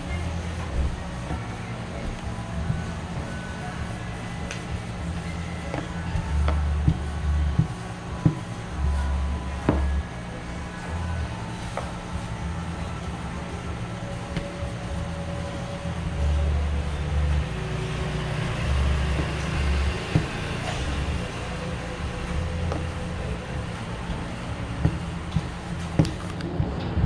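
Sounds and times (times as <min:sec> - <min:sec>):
low background rumble: 0:00.0 - 0:27.0.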